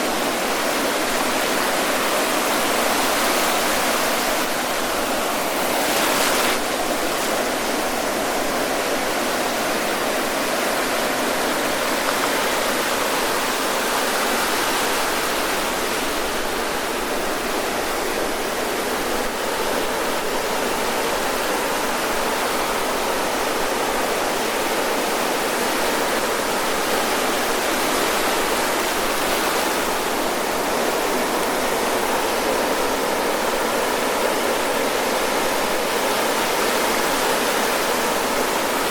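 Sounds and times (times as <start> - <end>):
ocean surf breaking on shore: 0.0 - 38.9.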